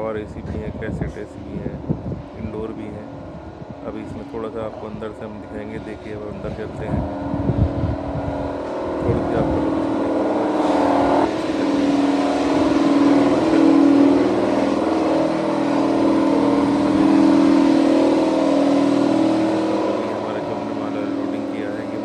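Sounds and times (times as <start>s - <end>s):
engine droning hum: 0.0s - 22.0s.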